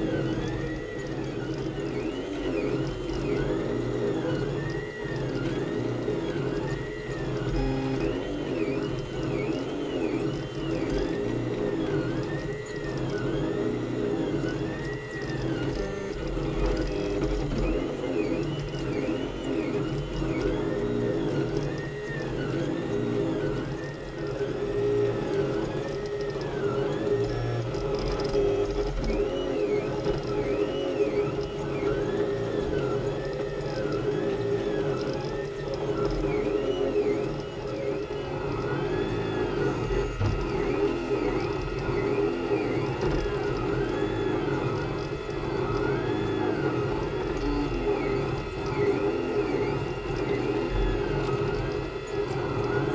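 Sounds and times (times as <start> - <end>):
steady machine hum: 0.0 - 52.9
stepper motors whining: 0.0 - 52.9.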